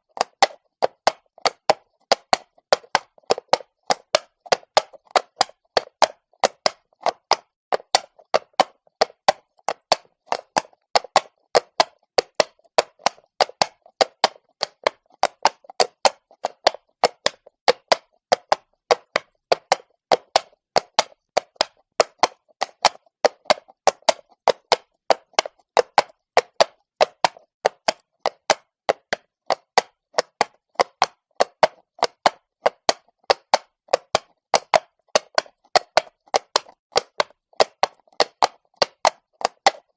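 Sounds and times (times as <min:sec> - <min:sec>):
horse hooves on cobblestones: 0:00.1 - 0:39.9.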